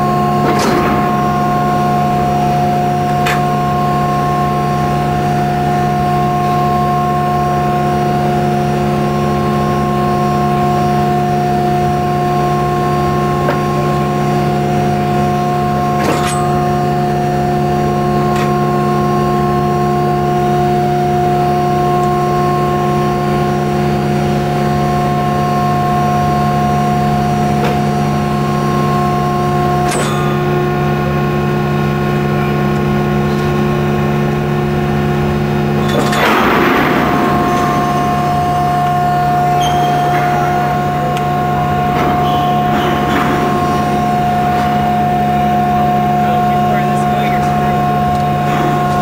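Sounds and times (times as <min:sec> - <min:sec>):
hydraulic power unit humming: 0:00.0 - 0:49.0.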